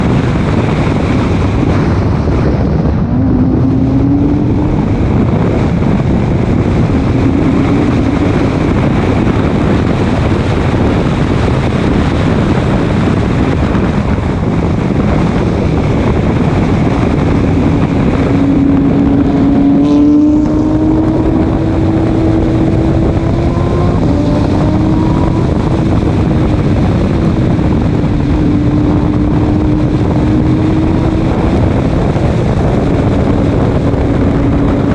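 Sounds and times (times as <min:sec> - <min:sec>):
race car engine: 0:00.0 - 0:34.9
wind and road noise: 0:00.0 - 0:34.9.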